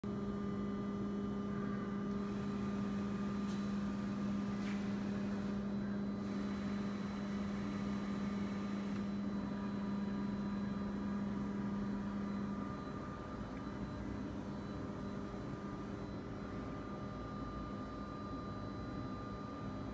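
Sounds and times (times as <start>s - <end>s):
thin high whine: 1.4s - 19.9s
electric servo hum: 1.5s - 19.9s.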